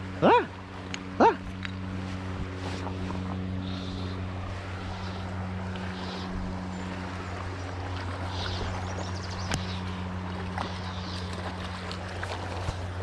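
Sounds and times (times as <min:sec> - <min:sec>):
low hum: 0:00.0 - 0:13.0
stream water flowing: 0:00.0 - 0:13.0.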